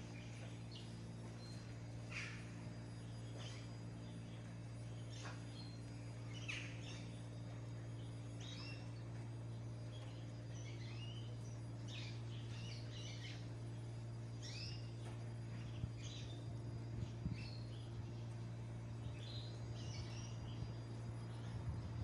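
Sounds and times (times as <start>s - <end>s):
songbirds chirping: 0.0s - 22.0s
steady low hum: 0.0s - 22.0s.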